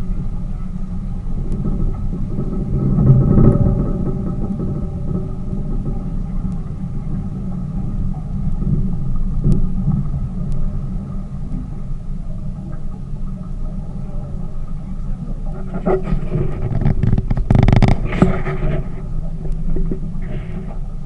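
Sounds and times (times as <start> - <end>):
boat engine rumbling: 0.0 - 21.0
faint steady hum: 0.0 - 21.0.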